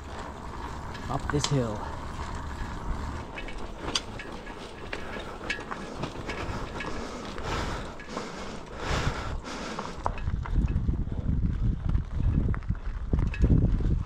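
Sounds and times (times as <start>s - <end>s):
bike clicking and rattling: 0.0s - 14.0s
tyres crunching on gravel: 0.0s - 14.0s.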